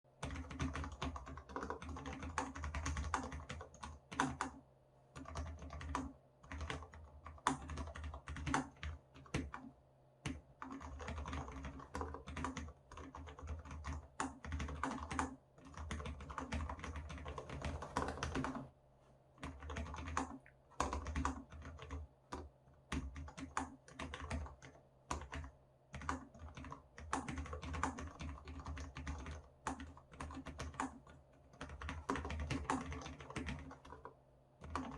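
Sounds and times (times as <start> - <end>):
typing on a keyboard: 0.2 - 4.6, 5.2 - 18.7, 19.4 - 34.9.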